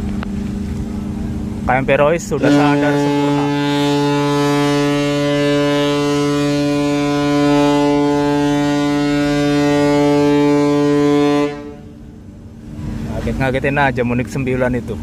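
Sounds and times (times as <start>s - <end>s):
deep ship horn blast: 0.0s - 13.1s.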